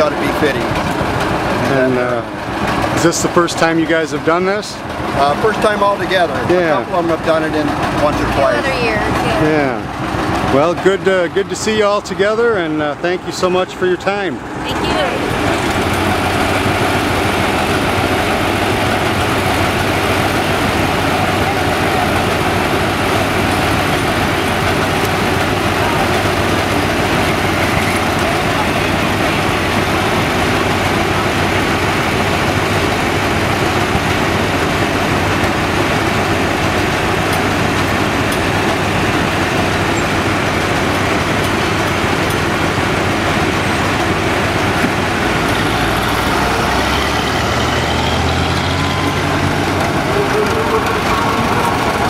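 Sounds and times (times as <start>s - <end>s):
tractor engines running: 0.0s - 52.0s.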